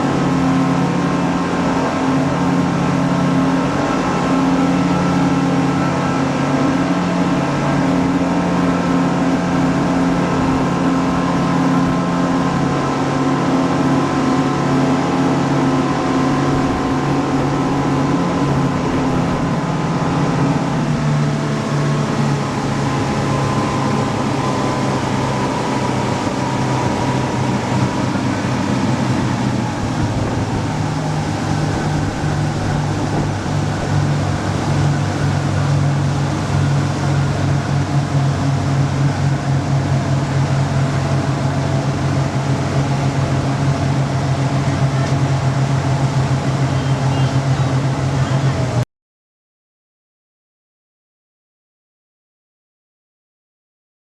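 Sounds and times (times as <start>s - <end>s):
boat engine running: 0.0s - 48.8s.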